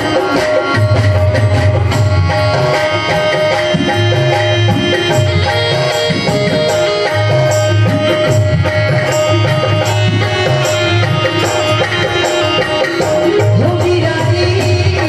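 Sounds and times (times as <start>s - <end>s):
sustained melody line: 0.0s - 15.0s
tabla drum beat: 0.0s - 15.0s.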